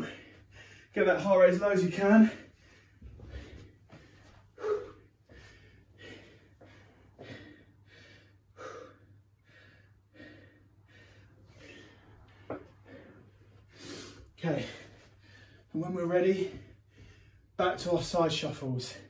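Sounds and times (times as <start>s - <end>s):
man breathing hard and fast: 0.0s - 1.1s, 1.7s - 17.6s.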